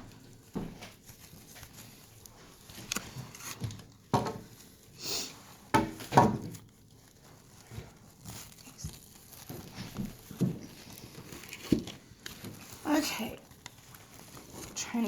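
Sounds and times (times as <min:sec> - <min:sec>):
packaging rustle: 0:00.0 - 0:15.0.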